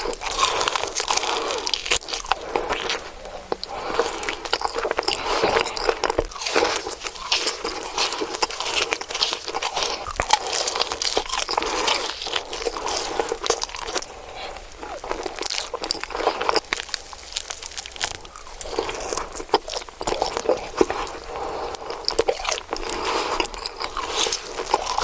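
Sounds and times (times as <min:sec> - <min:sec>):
person crunching and chewing food: 0:00.0 - 0:25.0.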